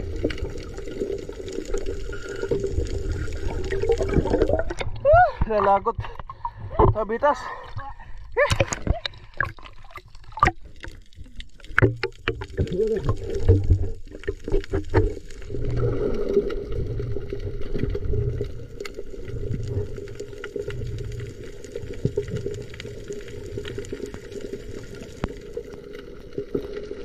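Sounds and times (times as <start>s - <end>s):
muffled underwater water noise: 0.0s - 27.0s.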